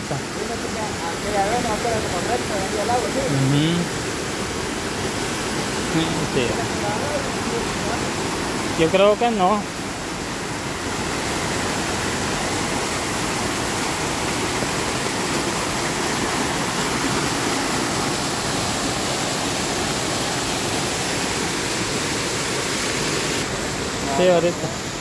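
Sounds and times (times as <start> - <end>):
water rushing into trench: 0.0 - 25.0.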